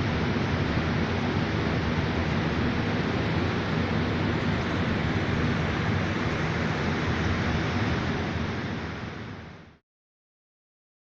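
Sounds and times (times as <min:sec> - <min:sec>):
refrigeration fans rushing: 0:00.0 - 0:09.8.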